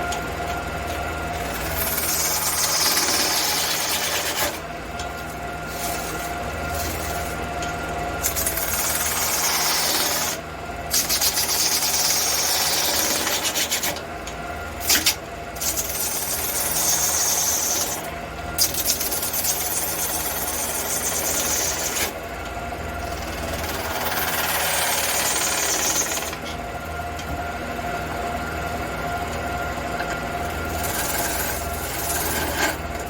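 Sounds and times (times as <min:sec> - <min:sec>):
lathe motor hum: 0:00.0 - 0:33.0.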